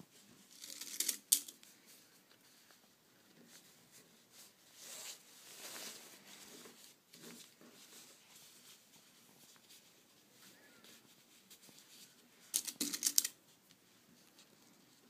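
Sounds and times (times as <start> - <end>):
fabric rustling: 1.6 - 15.0.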